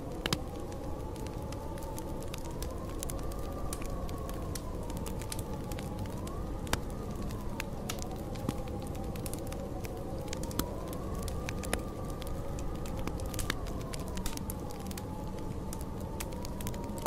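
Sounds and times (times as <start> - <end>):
storm wind howling: 0.0 - 17.0
wood fire crackling and popping: 0.0 - 17.0.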